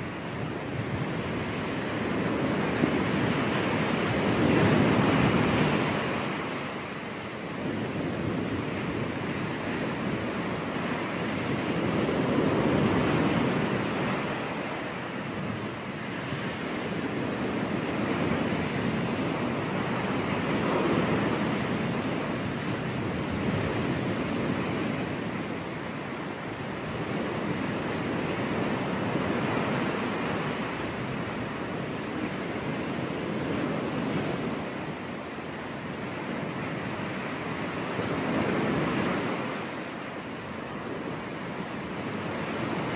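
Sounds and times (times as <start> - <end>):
ocean surf washing onto beach: 0.0 - 42.9.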